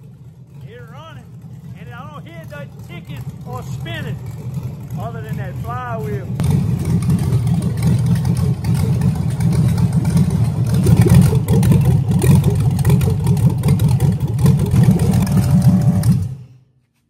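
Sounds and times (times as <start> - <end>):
open-header engine running: 0.0 - 16.5.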